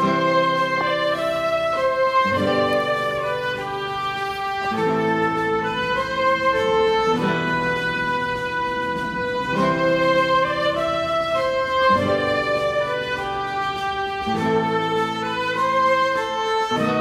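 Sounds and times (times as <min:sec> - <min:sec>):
bowed string melody: 0:00.0 - 0:17.0.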